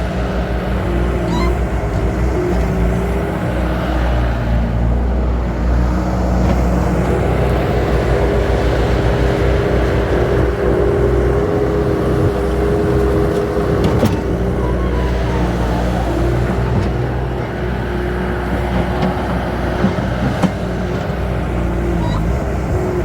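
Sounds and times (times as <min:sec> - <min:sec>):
heavy machine diesel engine: 0:00.0 - 0:23.0.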